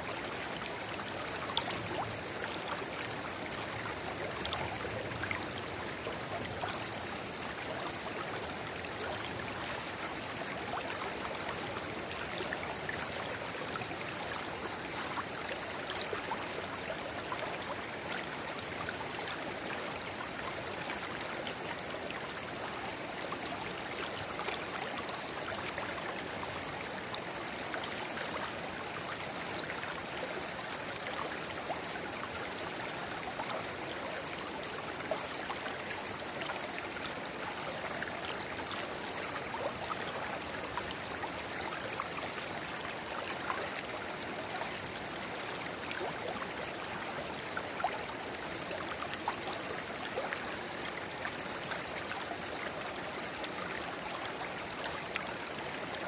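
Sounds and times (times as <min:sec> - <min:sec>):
river babbling: 0:00.1 - 0:56.0.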